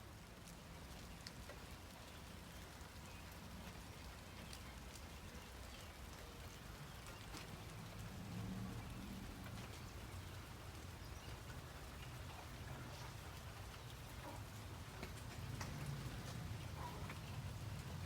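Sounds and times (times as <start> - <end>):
raindrops tapping a surface: 0.0 - 18.0
steady rain falling: 0.0 - 18.0.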